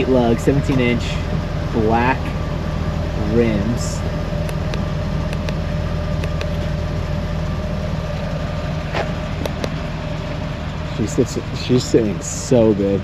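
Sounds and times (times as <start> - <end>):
constant higher tone: 0.0 - 13.0
low mechanical hum: 0.0 - 13.0.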